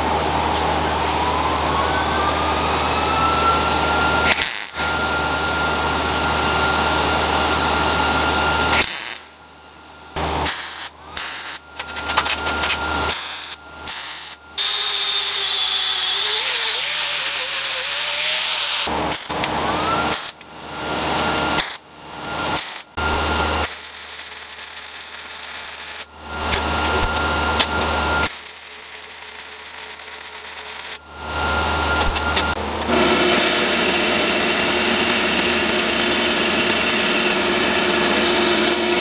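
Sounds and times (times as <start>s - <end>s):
power tool motor whine: 1.2s - 9.3s, 10.2s - 39.0s.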